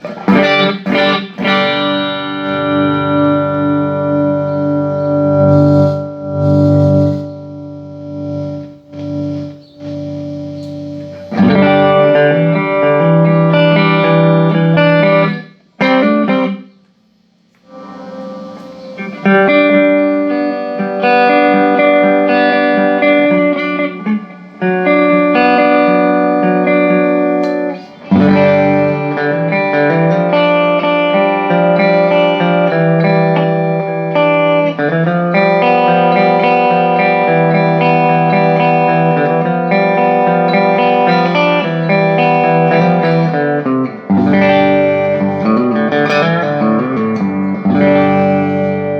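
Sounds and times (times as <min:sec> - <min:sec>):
electric guitar through amplifier: 0:00.0 - 0:48.9.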